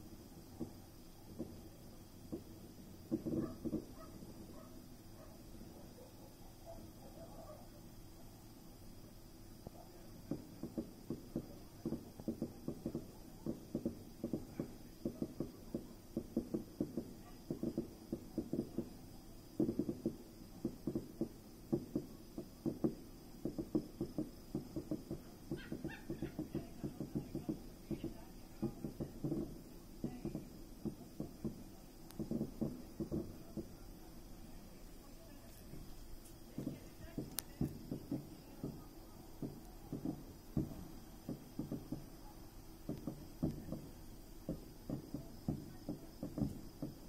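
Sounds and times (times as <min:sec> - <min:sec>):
distant fireworks popping and crackling: 0:00.0 - 0:47.0.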